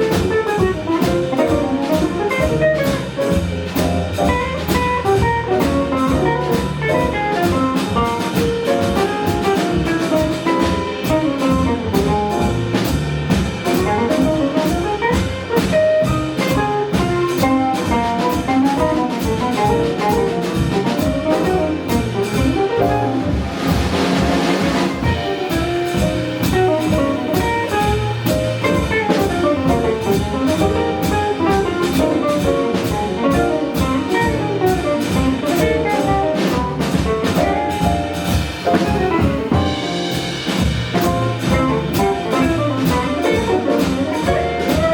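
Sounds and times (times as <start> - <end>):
jazz group playing: 0.0 - 44.9.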